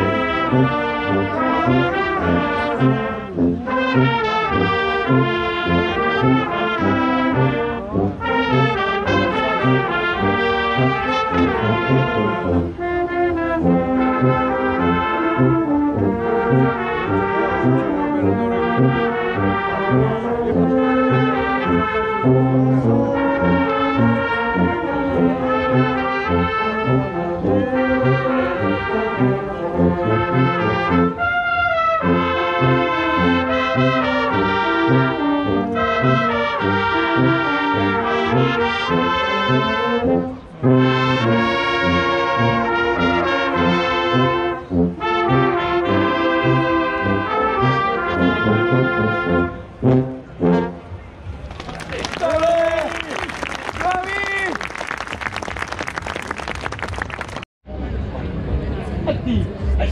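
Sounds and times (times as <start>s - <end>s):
brass band playing: 0.0s - 51.3s.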